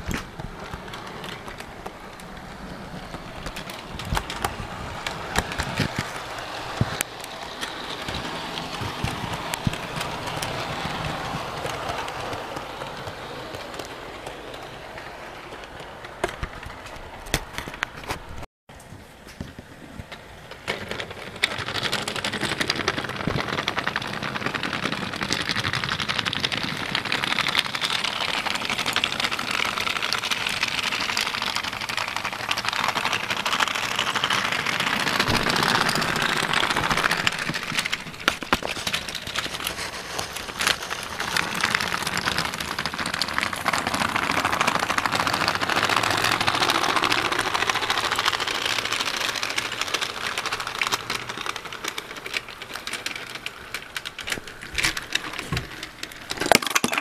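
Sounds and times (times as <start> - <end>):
model train clattering on track: 0.0 - 57.0.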